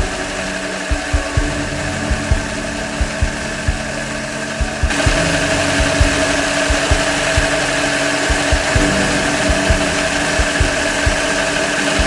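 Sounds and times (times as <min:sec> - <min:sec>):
mechanical whine: 0:00.0 - 0:12.0
model engines humming and thumping: 0:00.0 - 0:12.0
low mechanical knocks: 0:00.9 - 0:11.6.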